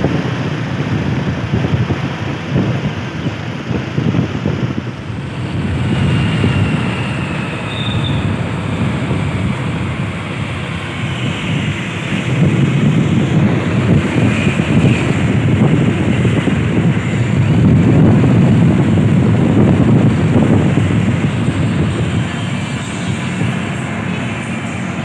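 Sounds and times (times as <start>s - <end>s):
train wheels rumbling on rail: 0.0s - 25.0s
wind buffeting microphone: 0.0s - 25.0s.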